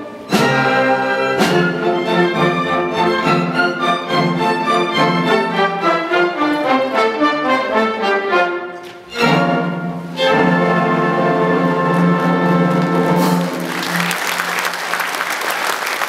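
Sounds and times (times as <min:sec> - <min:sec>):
orchestral music with strings: 0:00.0 - 0:15.0.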